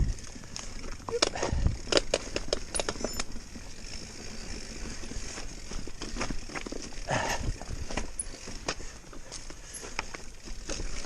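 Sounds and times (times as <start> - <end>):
mountain bike clattering over rocks: 0.0 - 11.0.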